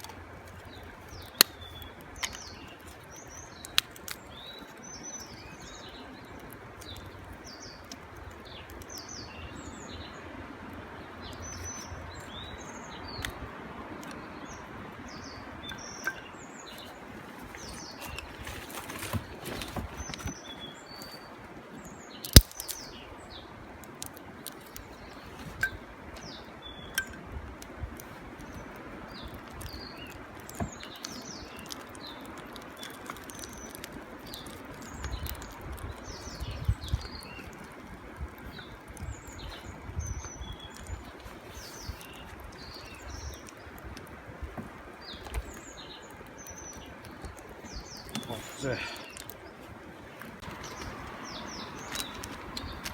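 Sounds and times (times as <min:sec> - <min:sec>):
small birds chirping: 0:00.0 - 0:52.9
steady outdoor hiss: 0:00.0 - 0:52.9.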